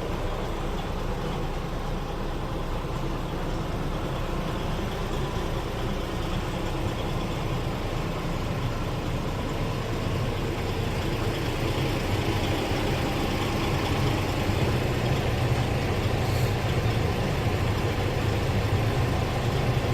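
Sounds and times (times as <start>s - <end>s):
diesel truck engine idling: 0.0s - 19.9s.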